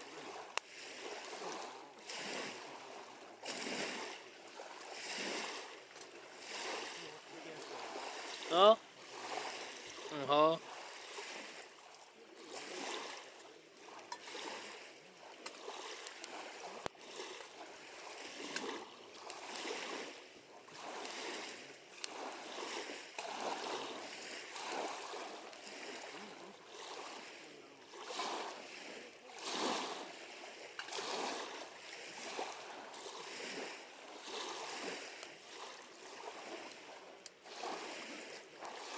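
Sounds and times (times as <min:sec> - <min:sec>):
small waves lapping at shore: 0:00.0 - 0:38.9.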